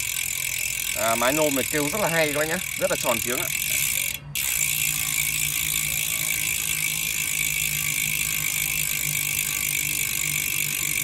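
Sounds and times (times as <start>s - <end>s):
bicycle hub ticking: 0.0s - 11.0s.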